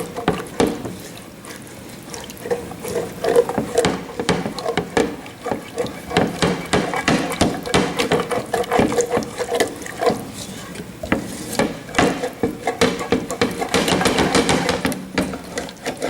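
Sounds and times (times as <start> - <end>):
whisk scraping against pan: 0.0 - 16.0.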